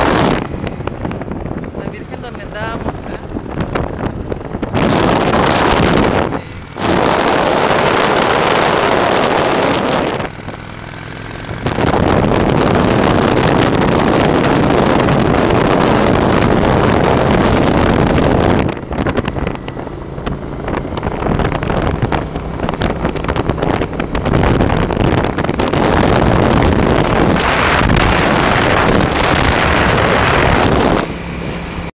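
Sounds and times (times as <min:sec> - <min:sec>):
motorcycle engine running: 0:00.0 - 0:31.9
wind buffeting microphone: 0:00.0 - 0:31.9.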